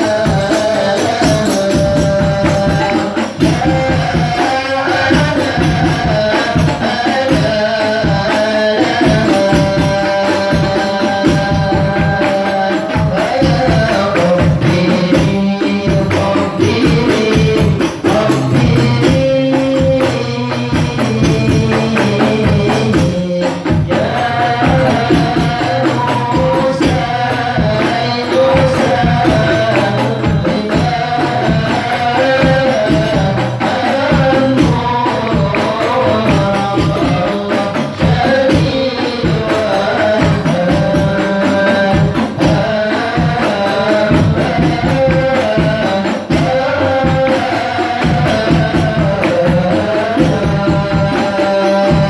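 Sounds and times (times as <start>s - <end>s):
frame drums beating: 0.0s - 52.0s
group singing devotional song: 0.0s - 52.0s.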